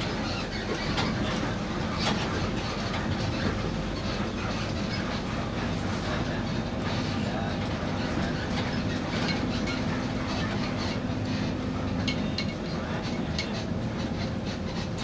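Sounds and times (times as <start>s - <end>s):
bus body clicks and rattles: 0.0s - 15.0s
bus engine and road rumble: 0.0s - 15.0s.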